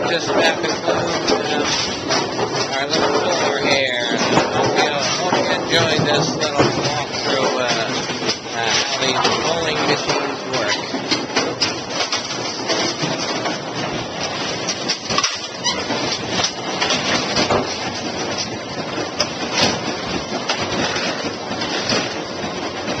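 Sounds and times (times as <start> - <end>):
pinsetter machines clattering: 0.0 - 23.0.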